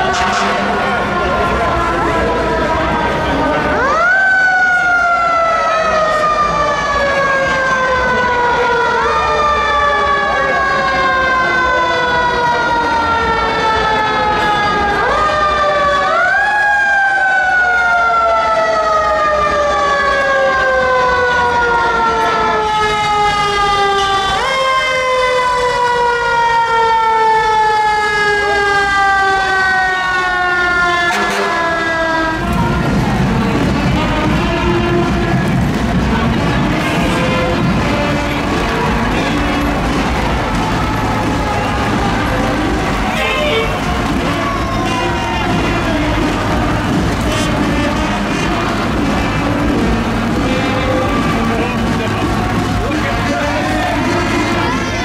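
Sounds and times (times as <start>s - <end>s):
fire engine sirens wailing: 0.0s - 55.0s.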